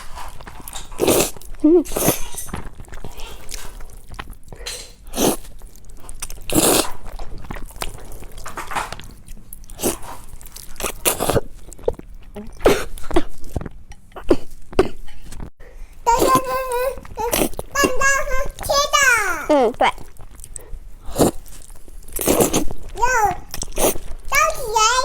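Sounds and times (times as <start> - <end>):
person eating and chewing: 0.0 - 15.5, 16.1 - 18.7, 19.5 - 25.0.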